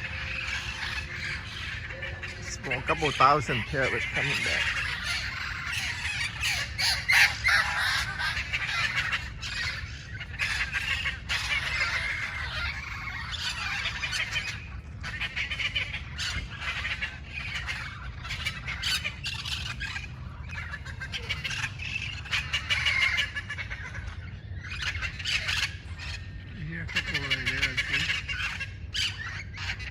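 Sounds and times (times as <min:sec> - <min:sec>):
parrots squawking and screeching: 0:00.0 - 0:29.9
steady low rumble: 0:00.0 - 0:29.9.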